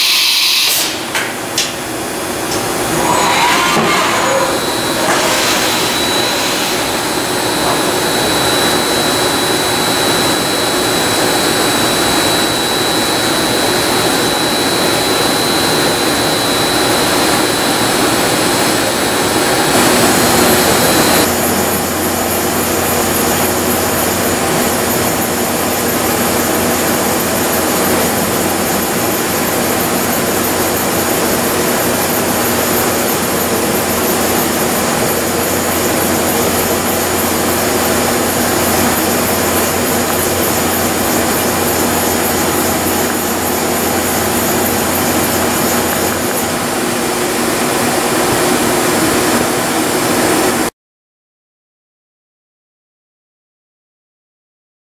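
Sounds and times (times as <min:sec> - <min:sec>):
machine drone: 0:00.0 - 0:50.6
high machine whine: 0:00.0 - 0:50.7
low machine hum: 0:00.9 - 0:48.8.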